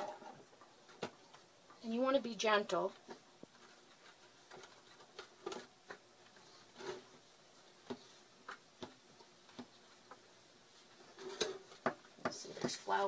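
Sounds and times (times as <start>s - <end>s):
hands kneading sticky dough: 0.6s - 13.0s.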